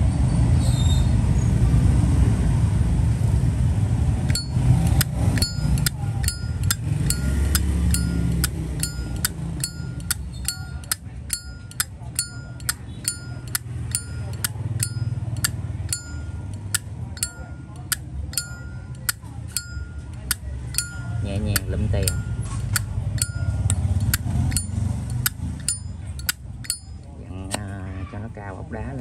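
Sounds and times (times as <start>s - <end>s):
background traffic rumble: 0.0s - 29.0s.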